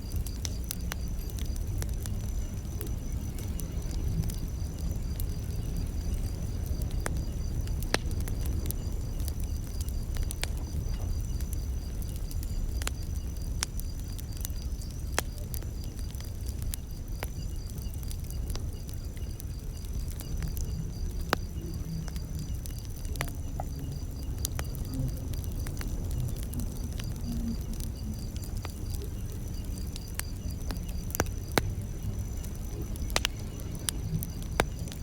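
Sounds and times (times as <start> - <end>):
campfire crackling and popping: 0.0 - 35.0
crickets chirping: 0.0 - 35.0.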